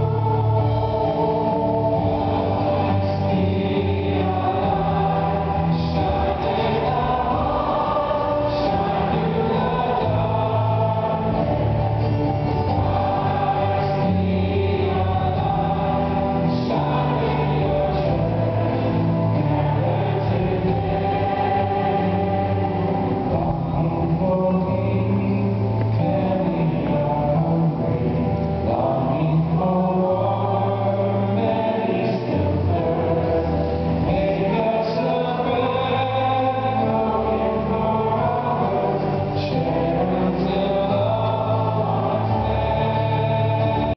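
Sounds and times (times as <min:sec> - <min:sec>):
choir singing a hymn: 0:00.0 - 0:43.9.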